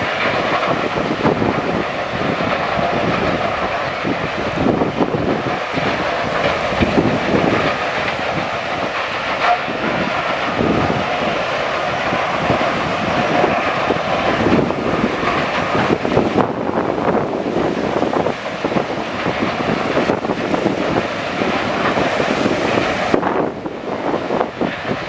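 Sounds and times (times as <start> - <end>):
heavy mechanical clatter and rumble: 0.0 - 25.0.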